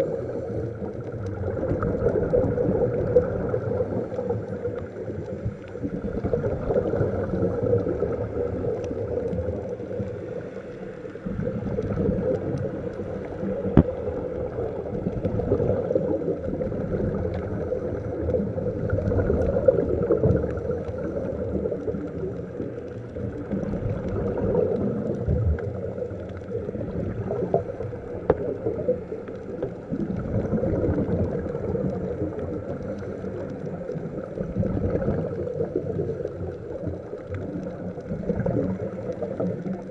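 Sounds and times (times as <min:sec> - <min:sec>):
underwater bubbling rush: 0:00.0 - 0:39.9.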